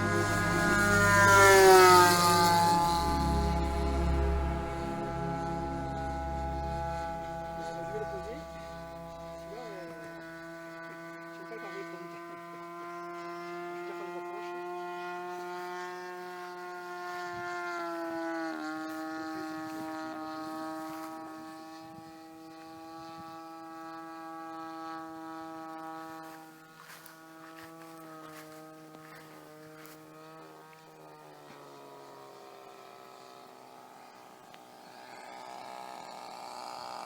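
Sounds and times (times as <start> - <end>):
model plane engine buzzing: 0.0 - 37.0.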